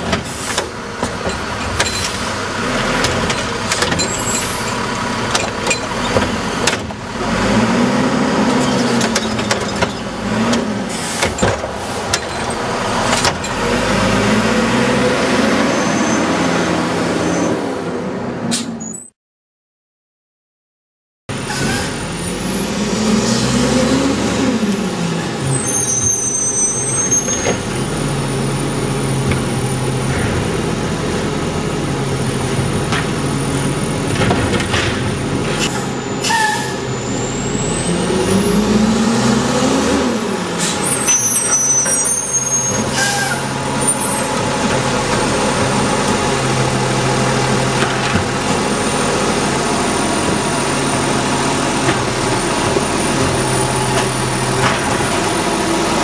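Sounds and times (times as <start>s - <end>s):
diesel engine revving: 0.0s - 18.5s, 21.3s - 56.0s.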